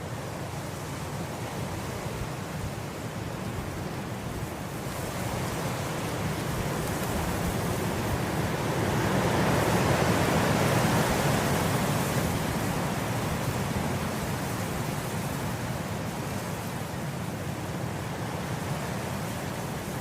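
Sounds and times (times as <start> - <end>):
wind blowing through grass: 0.0 - 20.0.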